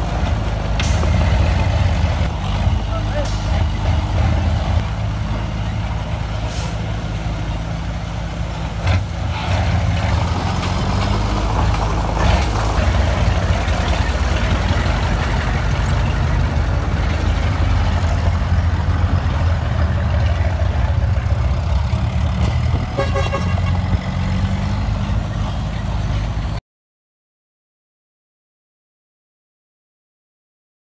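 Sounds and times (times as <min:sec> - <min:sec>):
diesel truck engine running: 0:00.0 - 0:26.6.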